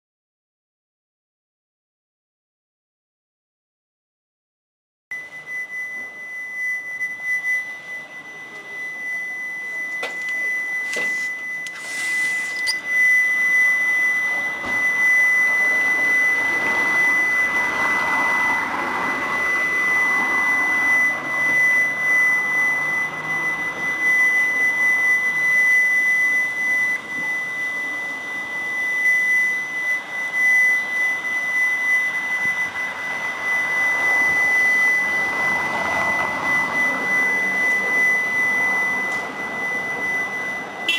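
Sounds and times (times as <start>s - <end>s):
steady high-pitched tone: 5.1s - 40.9s
wavering drone: 5.2s - 40.9s.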